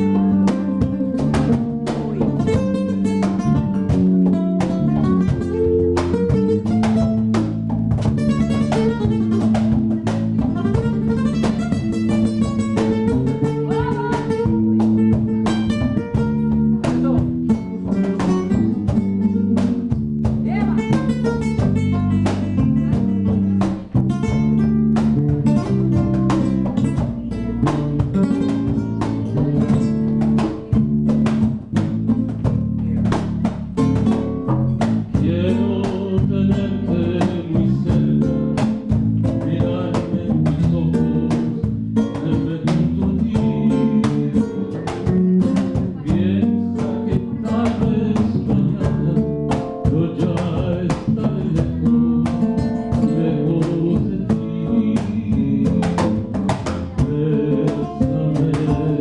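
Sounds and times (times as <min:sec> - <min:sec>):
acoustic guitar melody: 0:00.0 - 0:59.0
cajon beat: 0:00.0 - 0:59.0.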